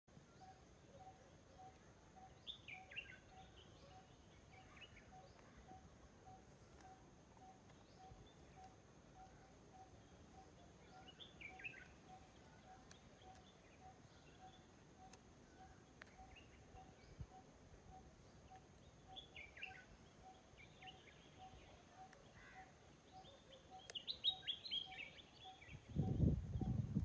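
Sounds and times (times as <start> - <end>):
birds chirping: 0.2 - 27.0.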